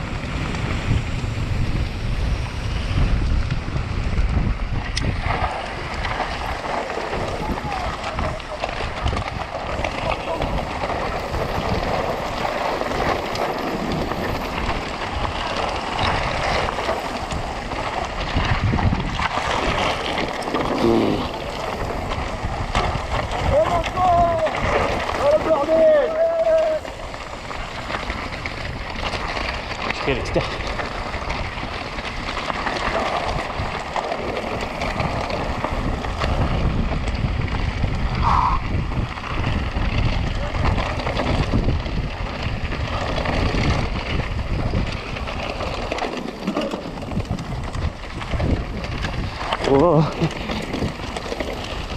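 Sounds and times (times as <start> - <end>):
bike rattling and knocking: 0.0 - 51.9
wind buffeting microphone: 0.0 - 51.9.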